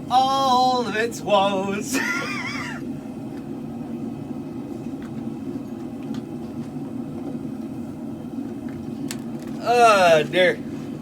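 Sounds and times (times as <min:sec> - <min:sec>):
forge burners roaring: 0:00.0 - 0:11.0.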